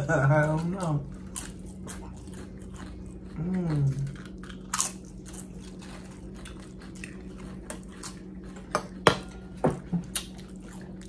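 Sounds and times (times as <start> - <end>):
tortilla chips crunching: 0.0 - 9.0.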